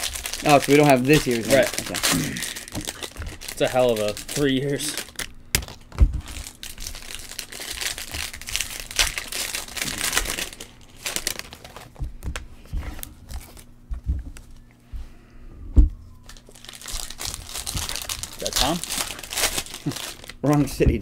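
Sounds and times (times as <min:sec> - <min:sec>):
foil wrappers crinkling: 0:00.0 - 0:14.7, 0:16.2 - 0:21.0.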